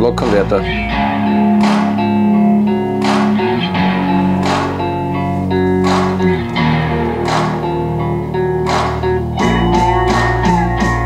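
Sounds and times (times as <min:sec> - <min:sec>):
guitar music with regular beat: 0:00.0 - 0:11.0.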